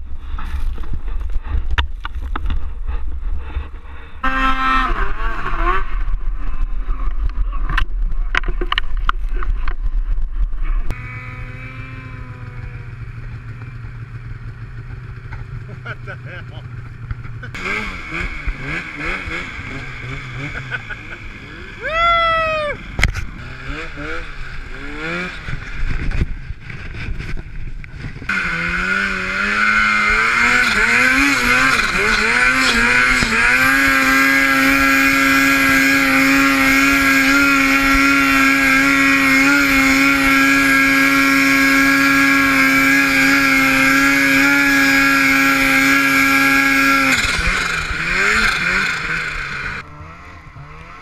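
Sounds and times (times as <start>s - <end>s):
snowmobile engine revving: 2.9s - 8.8s, 10.5s - 51.0s.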